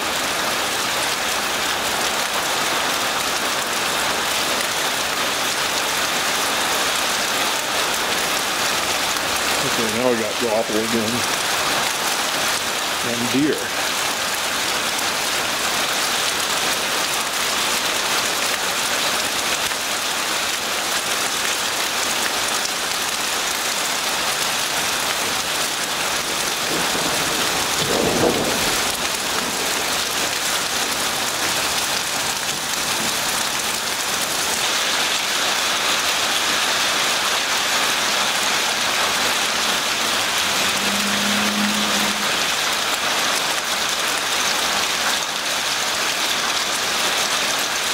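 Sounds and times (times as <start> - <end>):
rain and graupel on pavement: 0.0 - 47.9.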